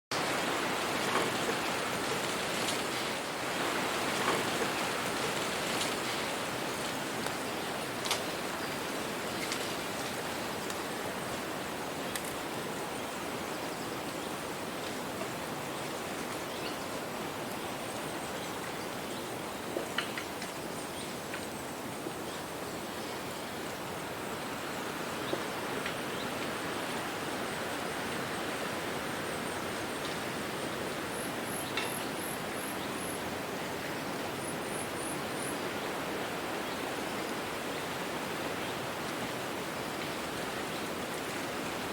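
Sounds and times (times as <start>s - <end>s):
wind rustling tree leaves: 0.1s - 41.9s.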